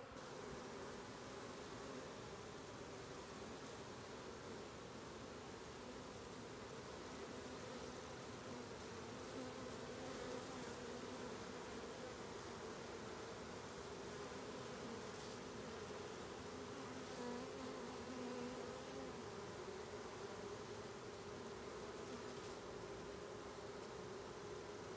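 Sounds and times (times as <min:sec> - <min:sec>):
bee swarm buzzing: 0:00.0 - 0:24.9.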